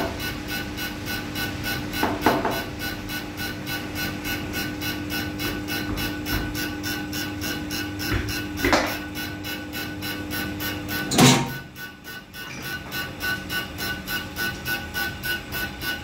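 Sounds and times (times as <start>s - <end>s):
diesel test bench humming and pulsing: 0.0s - 16.0s.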